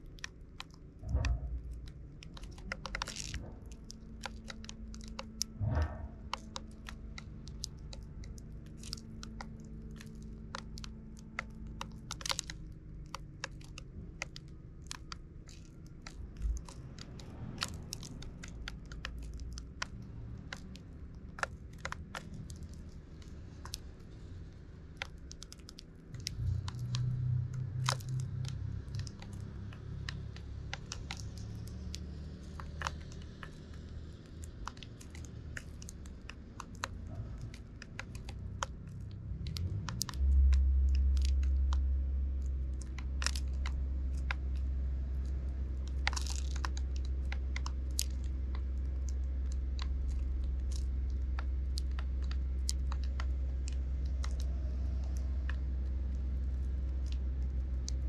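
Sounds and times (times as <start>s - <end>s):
birds cracking seeds: 0.0s - 58.0s
steady low rumble: 0.0s - 58.0s.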